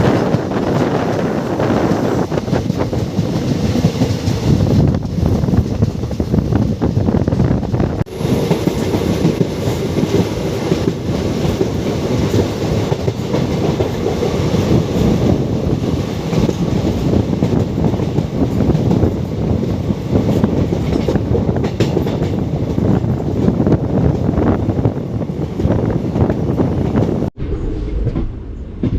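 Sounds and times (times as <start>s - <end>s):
train rumbling on the track: 0.0s - 28.9s.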